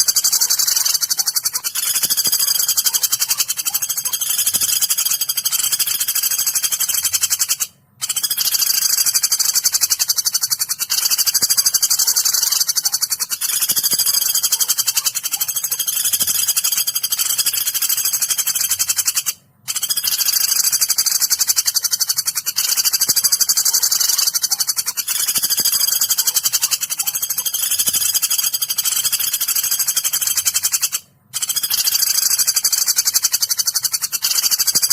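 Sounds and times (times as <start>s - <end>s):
woodpecker rapid trill: 0.0s - 34.9s.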